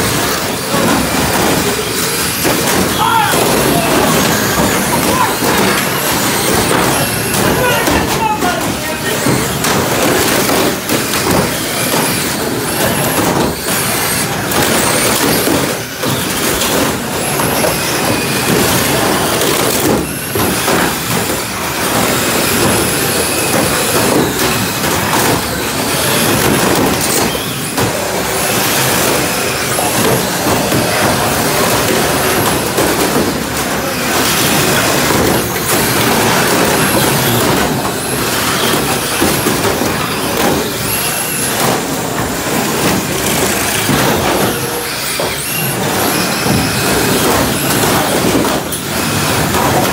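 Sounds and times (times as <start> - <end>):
plastic car bodies knocking: 0.0 - 49.9
rc car motors and wheels: 0.0 - 49.9.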